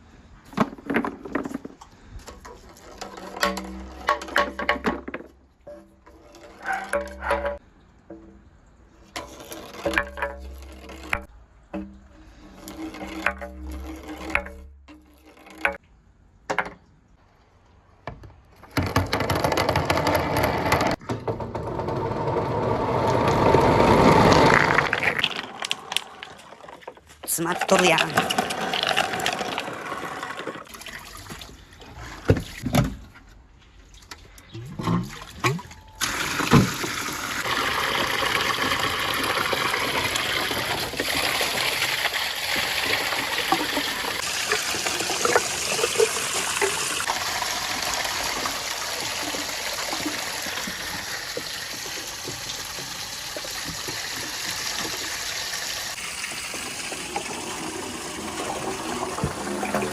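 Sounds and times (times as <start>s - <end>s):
water running through pipes: 1.9s - 15.9s, 22.3s - 32.7s, 33.8s - 59.9s.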